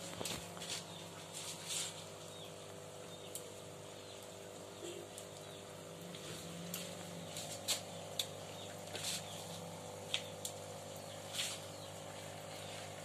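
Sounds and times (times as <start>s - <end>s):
steady low hum: 0.0s - 13.0s
water trickling into pond: 0.0s - 13.0s.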